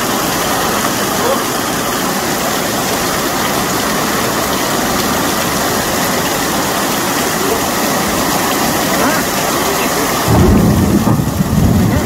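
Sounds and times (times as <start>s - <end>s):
floodwater rushing down street: 0.0s - 12.0s
heavy rain pouring: 0.0s - 12.0s.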